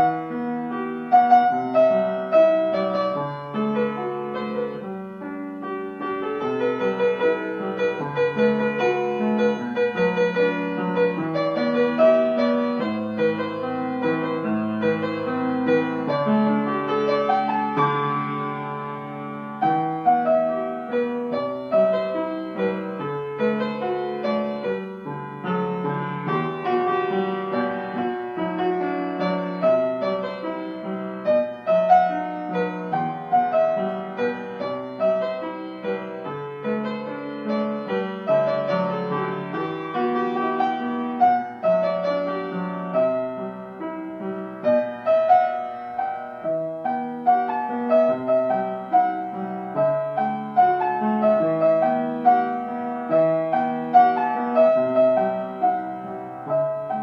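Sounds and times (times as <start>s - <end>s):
solo piano music: 0.0s - 57.0s.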